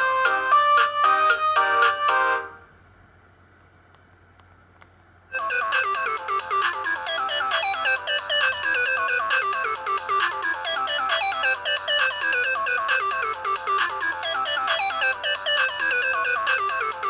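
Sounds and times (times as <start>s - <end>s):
phone ringtone melodies: 0.0s - 2.6s, 5.3s - 17.0s.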